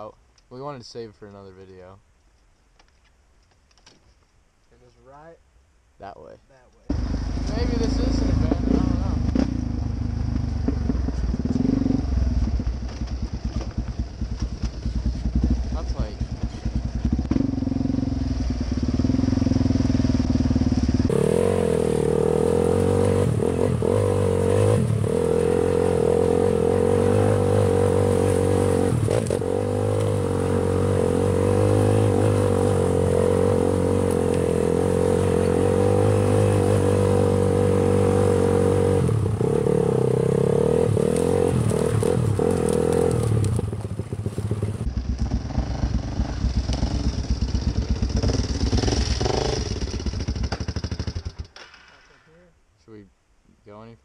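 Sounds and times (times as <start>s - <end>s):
quad engine under throttle: 6.9s - 51.7s.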